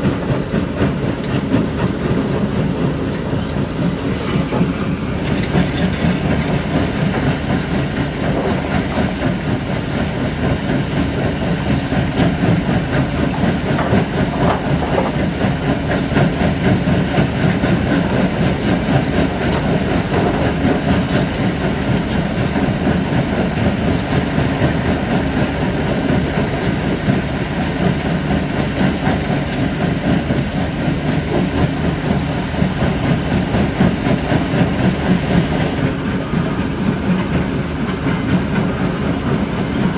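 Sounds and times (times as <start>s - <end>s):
loud steady engine drone: 0.0s - 39.9s.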